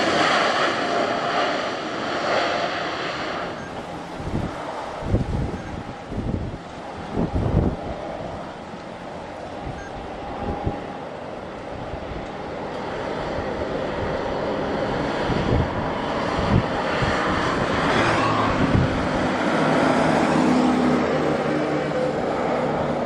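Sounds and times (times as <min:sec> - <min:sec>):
jet airliner engines: 0:00.0 - 0:23.0
wind buffeting microphone: 0:00.0 - 0:23.0.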